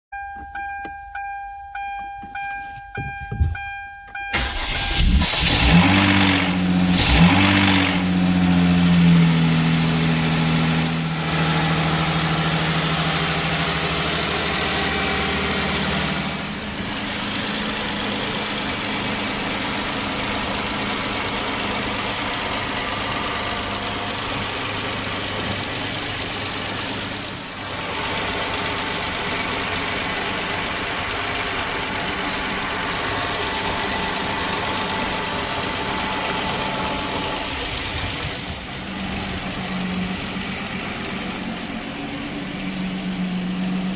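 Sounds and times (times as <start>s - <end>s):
car engine starting and idling: 0.2s - 43.9s
engine rattle: 3.0s - 43.9s.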